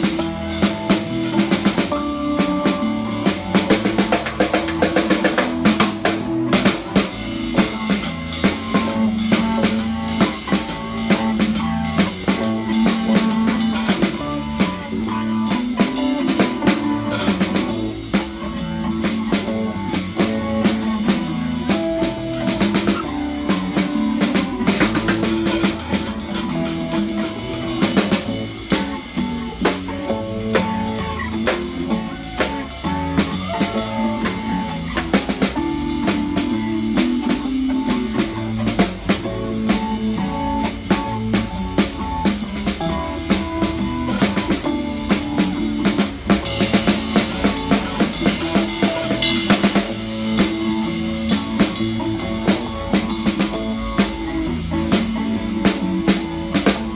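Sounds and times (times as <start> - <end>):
bass guitar: 0.0 - 56.9
drum kit beat: 0.0 - 56.9
electric guitars: 0.0 - 56.9.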